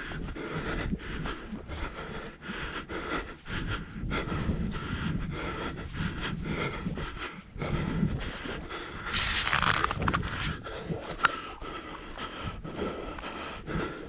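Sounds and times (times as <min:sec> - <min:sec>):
person breathing hard: 0:00.0 - 0:14.0
wind rumbling on microphone: 0:00.0 - 0:14.0.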